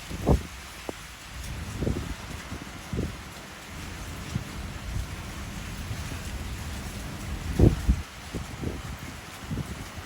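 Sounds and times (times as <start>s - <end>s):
wind gusts buffeting microphone: 0.0s - 10.0s.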